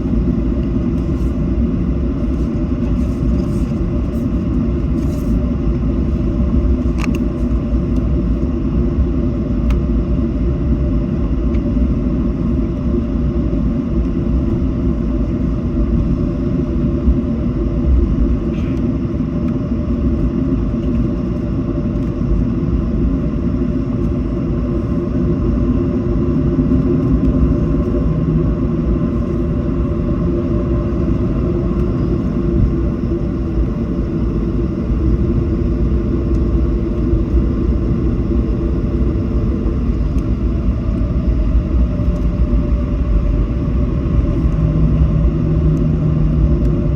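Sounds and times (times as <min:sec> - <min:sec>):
jet engines idling in cabin: 0:00.0 - 0:46.9.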